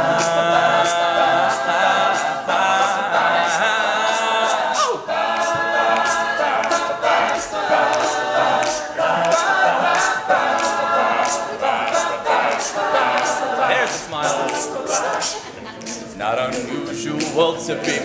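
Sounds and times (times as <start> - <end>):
crisp percussive beat: 0.0 - 18.0
male group singing in harmony: 0.0 - 18.0.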